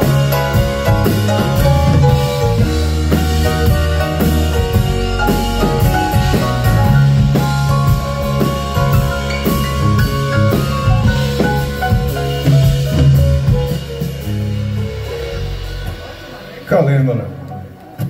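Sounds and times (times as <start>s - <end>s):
bass line: 0.0s - 17.8s
drum kit beat: 0.0s - 18.0s
melody of held notes: 0.0s - 18.0s.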